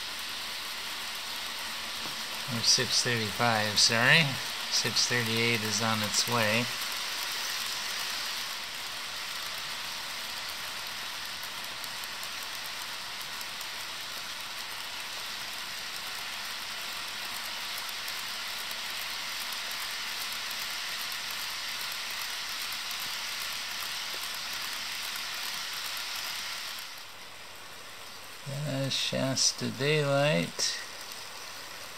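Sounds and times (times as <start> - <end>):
model train cars rolling hiss: 0.0 - 31.9.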